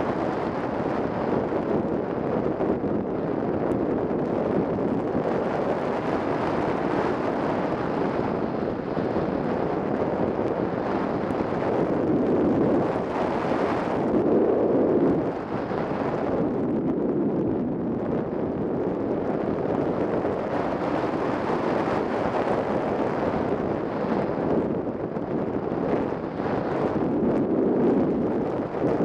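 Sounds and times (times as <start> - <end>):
wind rushing over camera: 0.0 - 29.0.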